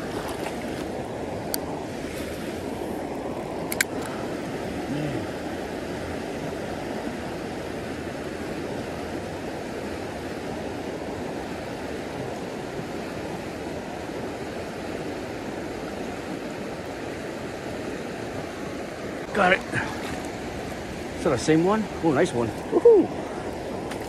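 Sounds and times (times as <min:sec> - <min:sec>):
creek water rushing over rocks: 0:00.0 - 0:24.0.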